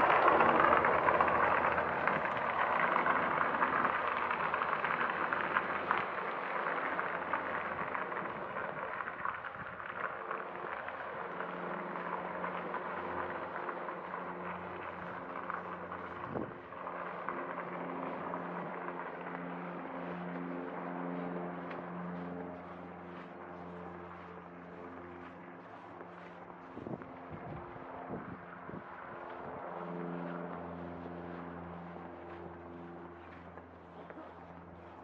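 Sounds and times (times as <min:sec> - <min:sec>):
rushing vehicle noise: 0:00.0 - 0:35.0
steady engine drone: 0:00.0 - 0:35.0.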